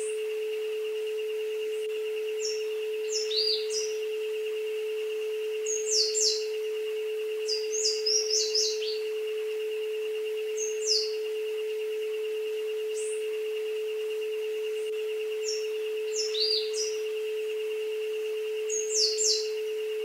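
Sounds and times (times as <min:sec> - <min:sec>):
birds chirping: 0:00.0 - 0:13.8, 0:14.5 - 0:17.8, 0:18.4 - 0:20.0
steady pure tone: 0:00.0 - 0:20.0.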